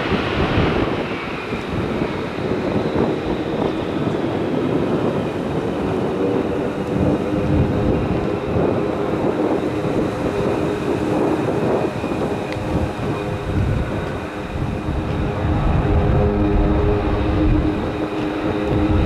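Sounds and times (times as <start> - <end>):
jet engine rumble and whine: 0.0 - 19.0.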